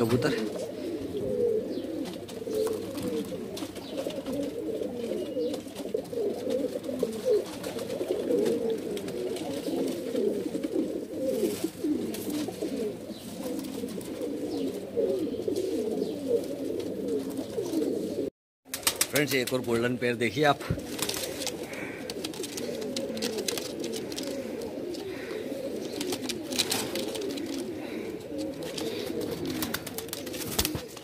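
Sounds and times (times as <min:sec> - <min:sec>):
pigeons cooing: 0:00.0 - 0:19.0, 0:19.7 - 0:31.0.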